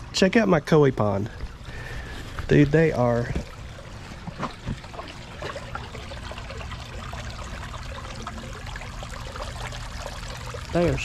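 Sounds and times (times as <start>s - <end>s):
water pouring into pond: 1.3s - 11.0s.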